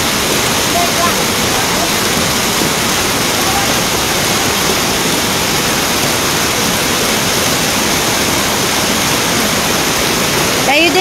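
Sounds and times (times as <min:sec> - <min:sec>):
floodwater rushing: 0:00.0 - 0:11.0
heavy rain: 0:00.0 - 0:11.0.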